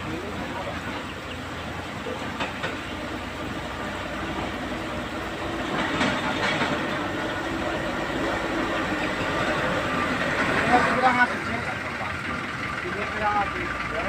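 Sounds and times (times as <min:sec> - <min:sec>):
excavator engine and hydraulics: 0:00.0 - 0:14.0.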